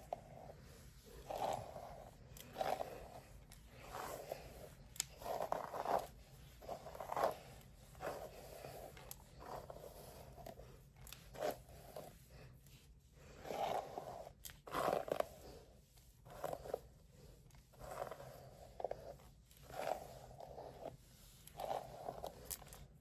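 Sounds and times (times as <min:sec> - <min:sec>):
hair rustling and scraping: 0:00.0 - 0:23.0.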